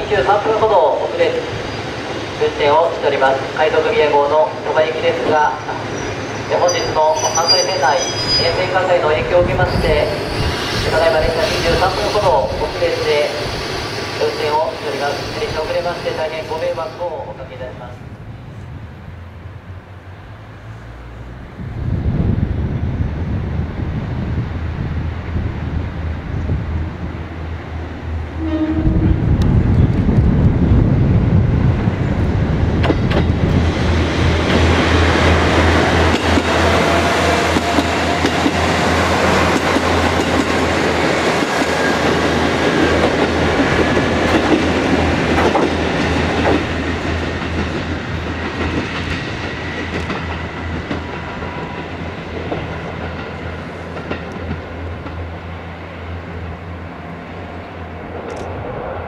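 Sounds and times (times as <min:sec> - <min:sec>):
diesel railcar engine drone: 0:00.0 - 0:59.0
wheel and rail noise: 0:00.2 - 0:59.0.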